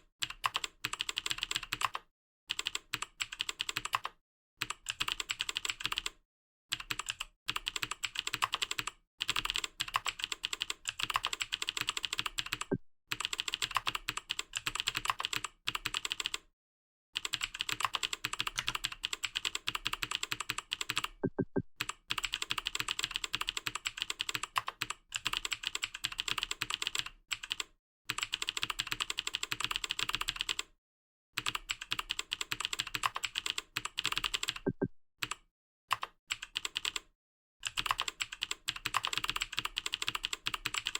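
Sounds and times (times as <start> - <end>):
computer keyboard typing: 0.2 - 16.4, 17.2 - 30.7, 31.4 - 40.9.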